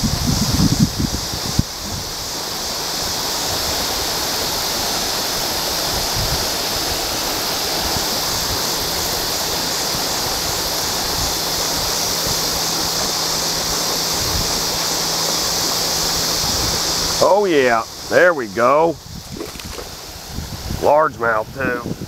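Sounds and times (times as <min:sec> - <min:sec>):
water rushing over waterfall: 0:00.0 - 0:22.0.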